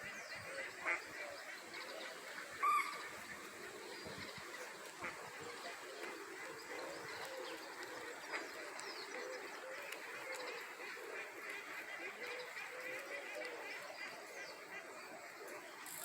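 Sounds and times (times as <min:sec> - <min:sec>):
ducks and geese calling: 0:00.0 - 0:16.0.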